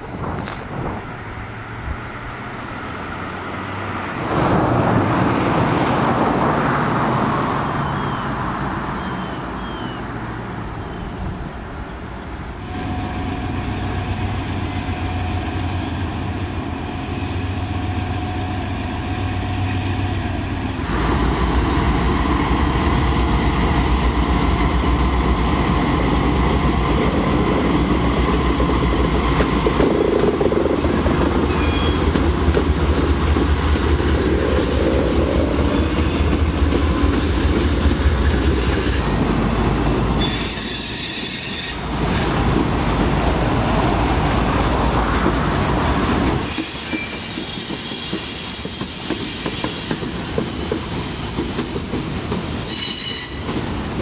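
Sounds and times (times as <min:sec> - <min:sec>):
train wheels on rails: 0:00.0 - 0:08.2, 0:10.5 - 0:54.0
diesel locomotive engines running: 0:07.4 - 0:54.0.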